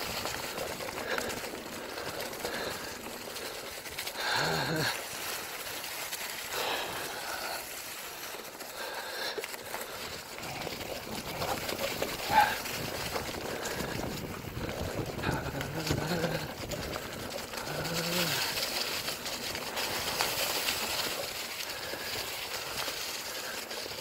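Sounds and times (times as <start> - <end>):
bicycle tyres on dry leaves: 0.0 - 24.0.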